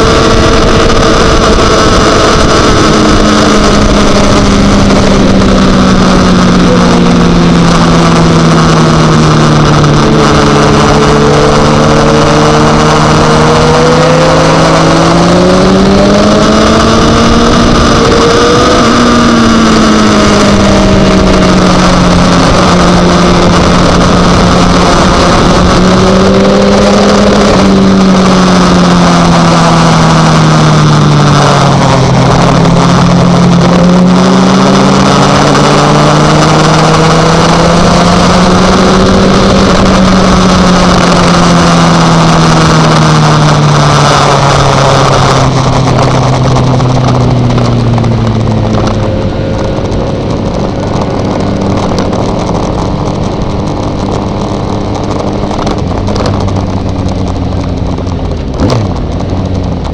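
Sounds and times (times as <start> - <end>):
racing motorcycle engine: 0.0 - 59.9
wind rush on microphone: 0.0 - 59.9.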